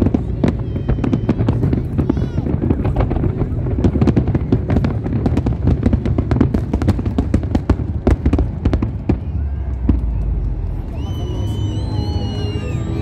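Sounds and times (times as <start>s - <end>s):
fireworks bursting and crackling: 0.0s - 13.0s
low rumble: 0.0s - 13.0s.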